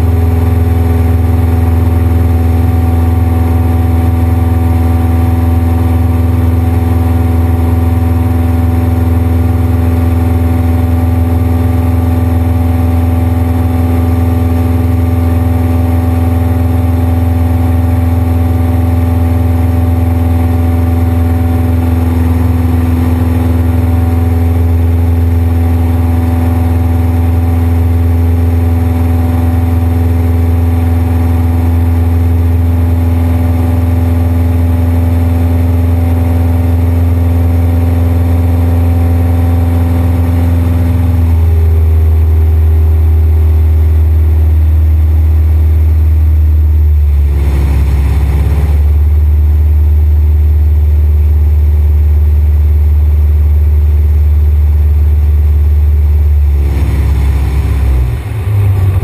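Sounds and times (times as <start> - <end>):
airplane engine droning in cockpit: 0.0 - 59.0.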